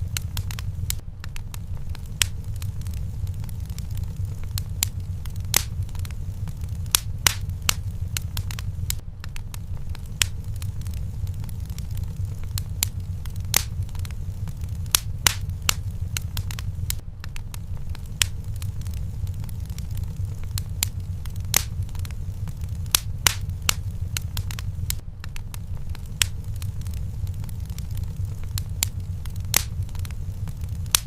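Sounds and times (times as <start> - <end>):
fire crackling in fireplace: 0.0 - 31.0.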